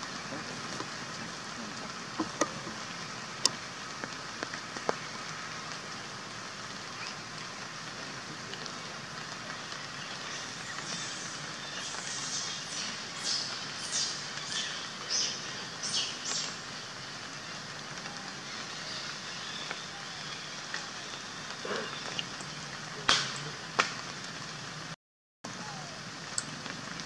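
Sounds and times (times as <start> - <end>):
rain hissing: 0.0 - 27.0.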